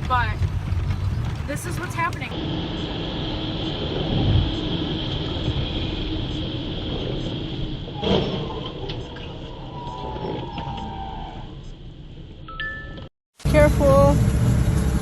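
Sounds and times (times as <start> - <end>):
vehicle running with high whine: 0.0 - 12.6, 13.4 - 15.0.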